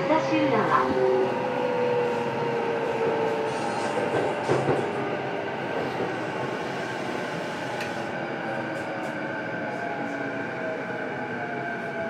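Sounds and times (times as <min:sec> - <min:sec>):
train rumble: 0:00.0 - 0:10.8.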